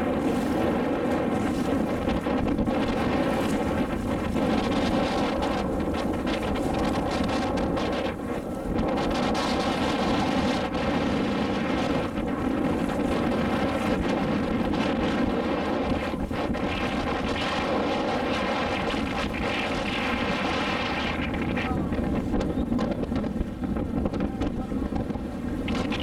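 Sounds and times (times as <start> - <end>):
motorboat engine running: 0.0 - 26.0
wind buffeting microphone: 0.0 - 26.0.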